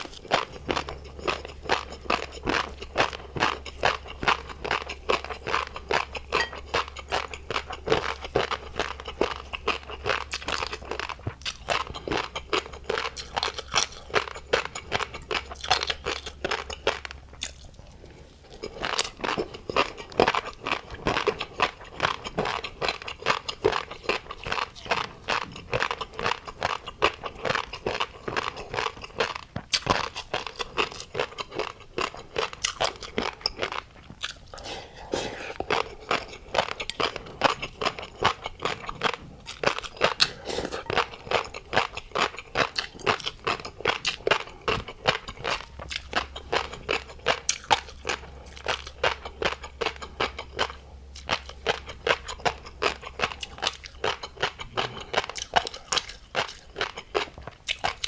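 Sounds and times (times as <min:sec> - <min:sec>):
chewing with pops and crunches: 0:00.0 - 0:58.0.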